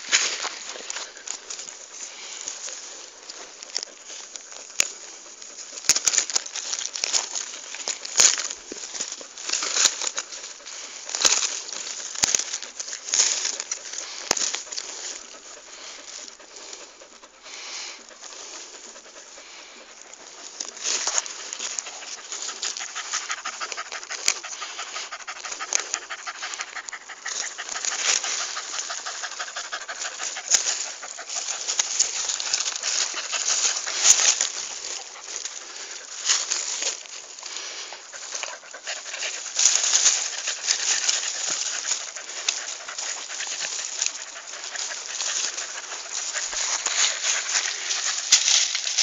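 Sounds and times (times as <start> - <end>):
dog panting: 0.0 - 49.0
dog paws scratching soil: 0.0 - 49.0.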